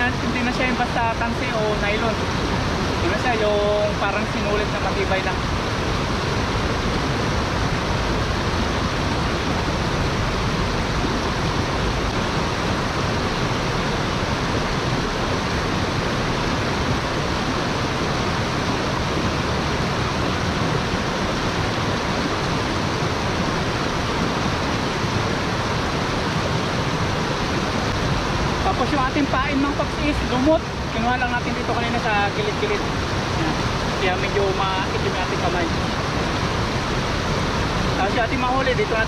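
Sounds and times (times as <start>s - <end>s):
stream rushing over stones: 0.0s - 39.0s.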